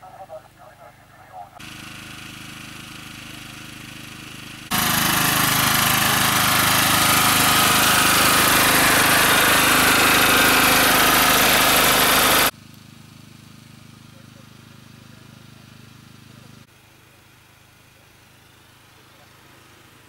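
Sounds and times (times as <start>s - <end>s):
faint engine hum: 0.0s - 20.0s
petrol generator running: 1.4s - 20.0s.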